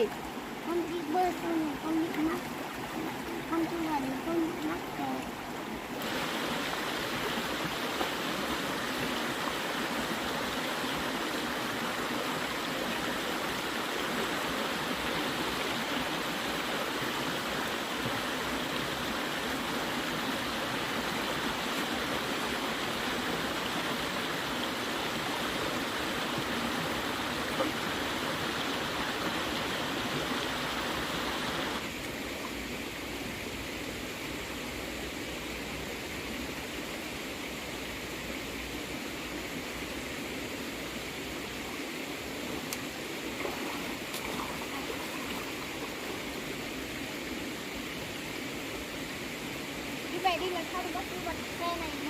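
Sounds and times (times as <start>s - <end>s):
rushing water: 0.0s - 52.0s.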